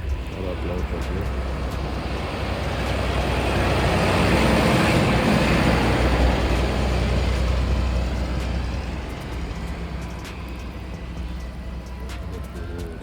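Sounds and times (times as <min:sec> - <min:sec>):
truck engine rumble and road noise: 0:00.0 - 0:13.0.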